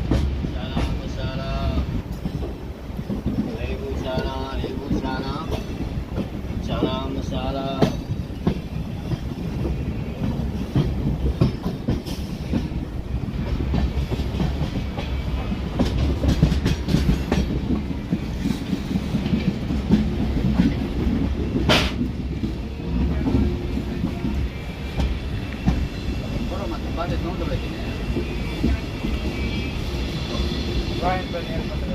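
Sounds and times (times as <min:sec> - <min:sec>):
train rumbling on rails: 0:00.0 - 0:31.9
wheels clacking over rail joints: 0:00.0 - 0:31.9.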